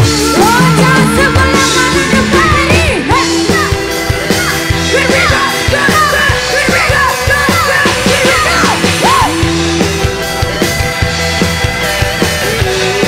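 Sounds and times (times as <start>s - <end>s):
electric guitar lead line: 0.0s - 13.0s
fast drum beat: 0.0s - 13.0s
live band playing loudly: 0.0s - 13.0s.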